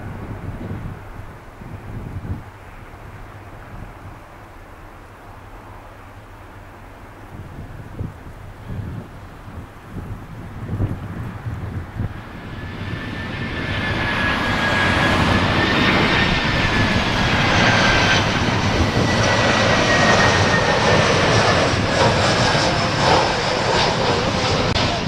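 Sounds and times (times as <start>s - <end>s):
jet engines roaring with whine: 0.0s - 25.0s.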